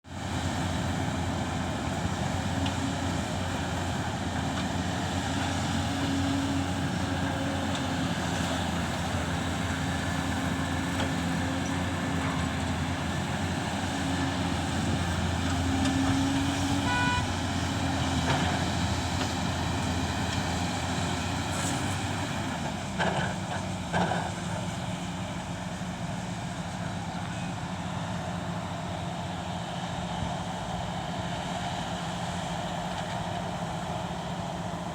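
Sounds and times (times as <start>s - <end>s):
excavator diesel engine: 0.0s - 34.9s.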